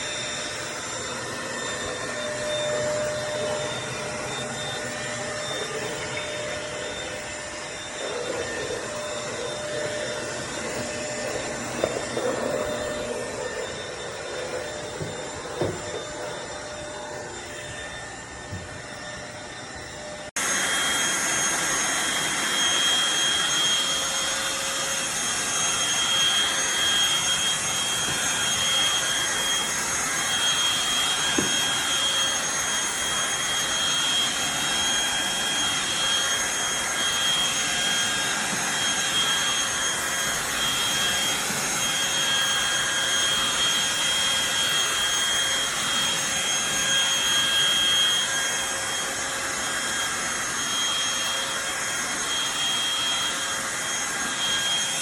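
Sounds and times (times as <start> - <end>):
stick vacuum whining: 0.0 - 55.0.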